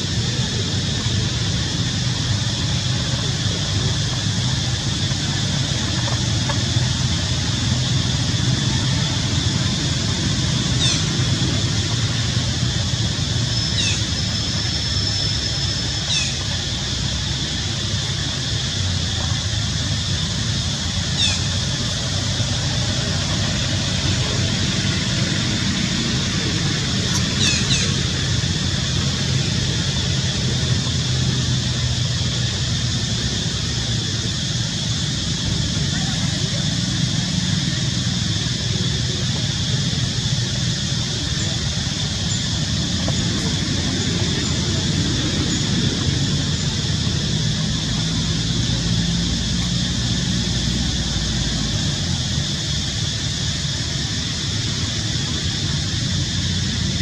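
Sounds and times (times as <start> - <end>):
outdoor rumble and hiss: 0.0 - 57.0.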